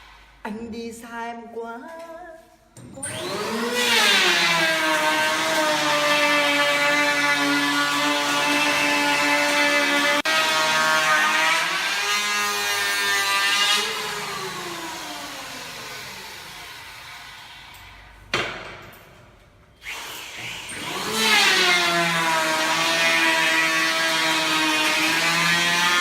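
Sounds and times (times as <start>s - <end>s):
power tool motor whine: 3.0s - 17.9s, 19.8s - 26.0s.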